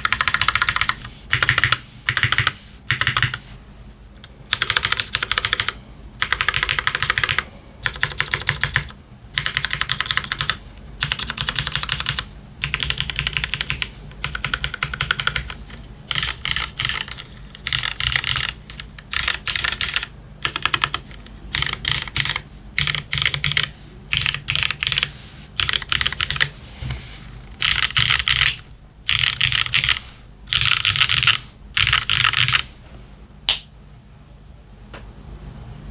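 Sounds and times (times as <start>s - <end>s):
mechanical keyboard typing: 0.0s - 3.4s, 4.5s - 26.5s, 27.6s - 32.7s.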